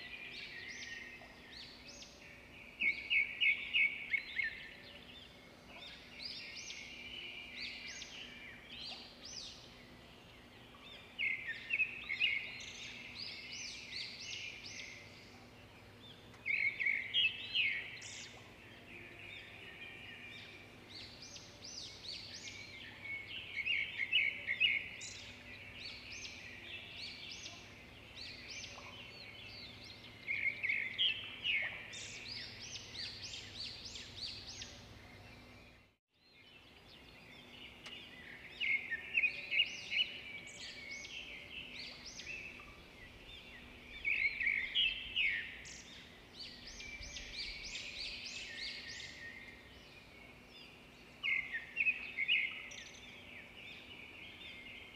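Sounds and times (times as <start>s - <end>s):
small birds chirping and trilling: 0.0s - 54.9s.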